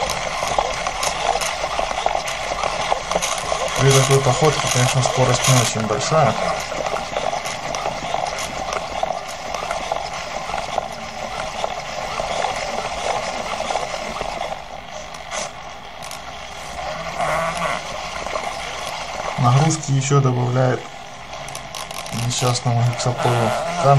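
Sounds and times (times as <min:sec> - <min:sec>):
servo motors whirring and grinding: 0:00.0 - 0:23.9.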